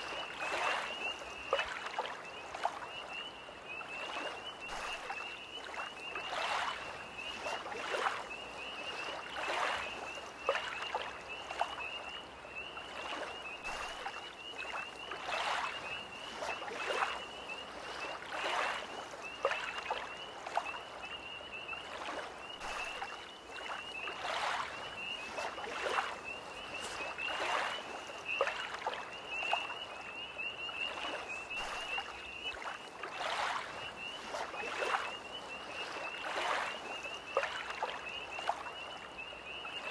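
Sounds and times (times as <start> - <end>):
lake waves lapping: 0.0 - 39.8
tree frogs trilling: 0.0 - 39.9.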